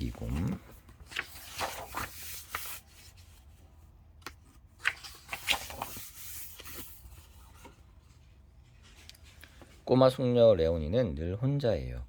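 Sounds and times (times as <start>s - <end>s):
book pages rustling and turning: 0.0s - 9.8s.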